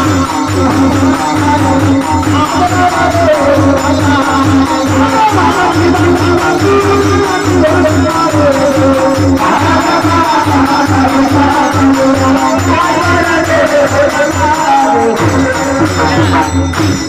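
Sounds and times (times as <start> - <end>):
person singing: 0.0 - 16.7
hand drum beat: 0.0 - 17.0
jingling tambourine: 0.0 - 17.0.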